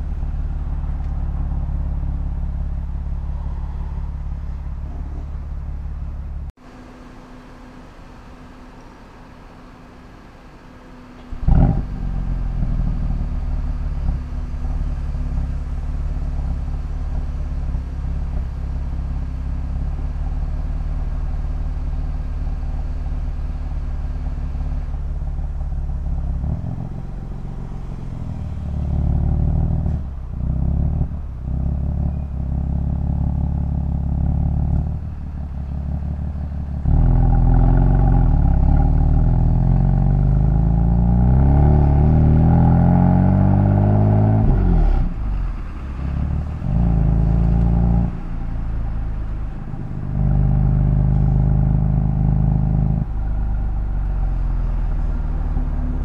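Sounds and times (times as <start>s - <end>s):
car engine idling: 0.0s - 41.4s, 44.4s - 56.0s.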